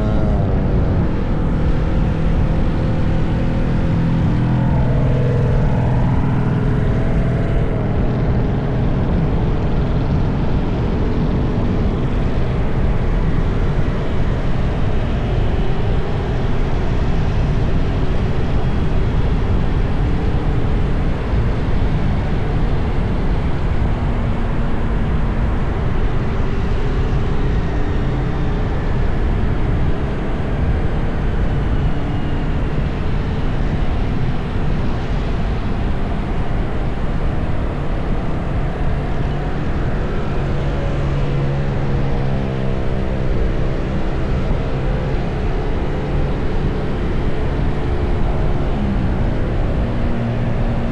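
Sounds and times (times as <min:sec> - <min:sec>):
city road traffic: 0:00.0 - 0:50.9.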